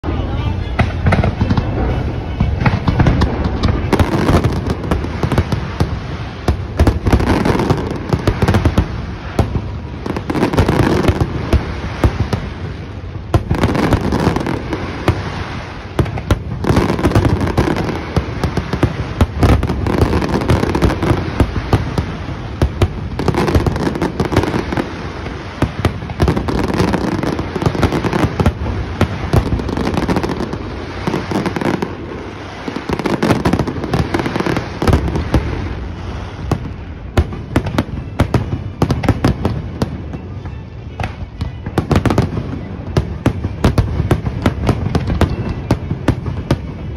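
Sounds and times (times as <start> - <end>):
fireworks launching and bursting: 0.0 - 46.9.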